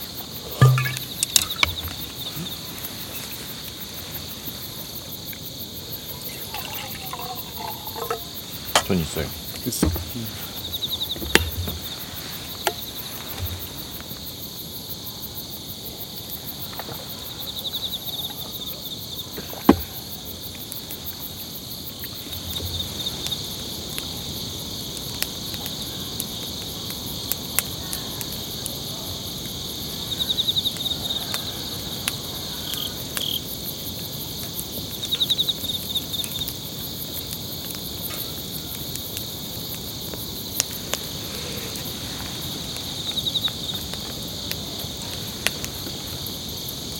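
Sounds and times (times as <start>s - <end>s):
night insects chirping: 0.0s - 46.9s
pulsing insect trills: 0.0s - 46.9s.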